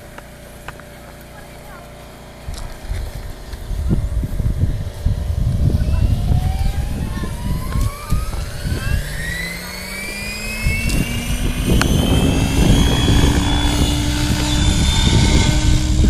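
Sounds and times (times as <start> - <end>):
helicopter motor whine rising: 0.0 - 16.0
low rumble: 2.4 - 16.0.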